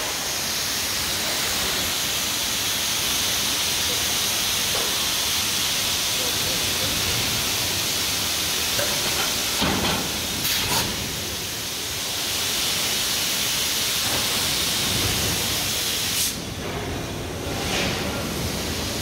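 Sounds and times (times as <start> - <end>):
loud hiss of forging press: 0.0 - 16.6.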